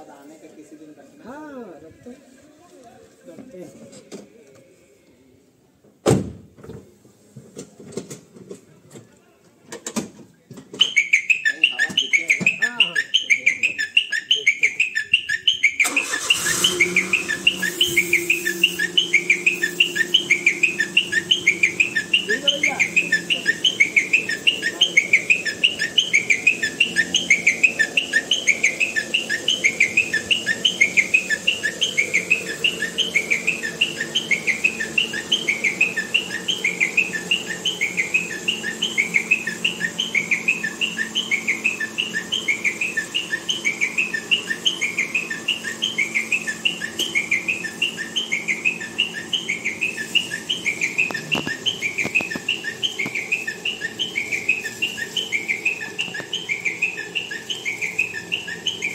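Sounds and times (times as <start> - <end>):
high rapid chirping: 10.8 - 58.9.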